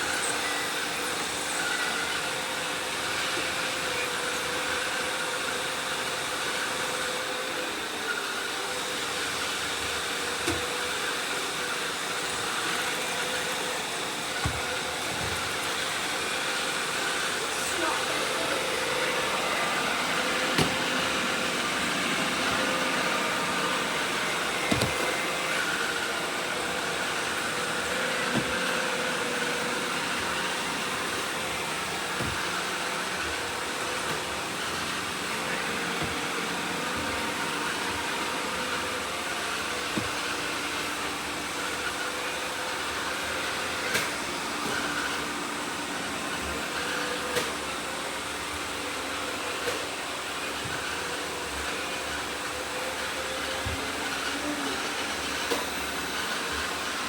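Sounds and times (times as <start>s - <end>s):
robot vacuums whirring: 0.0s - 57.0s.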